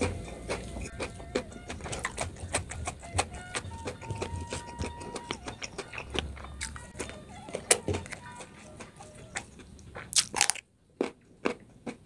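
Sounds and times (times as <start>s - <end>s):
chewing with full mouth: 0.0s - 12.0s.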